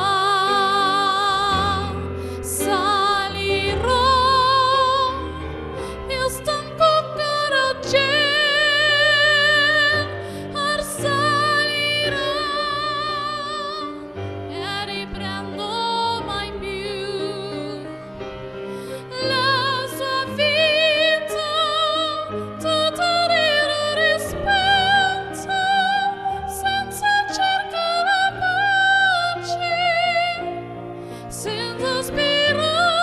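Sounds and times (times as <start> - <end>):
woman singing operatically: 0.0 - 17.9, 19.1 - 30.7, 31.3 - 33.0.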